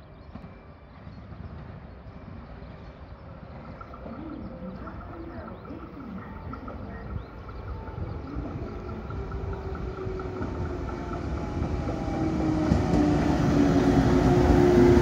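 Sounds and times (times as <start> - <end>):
electric train arriving: 0.0 - 15.0.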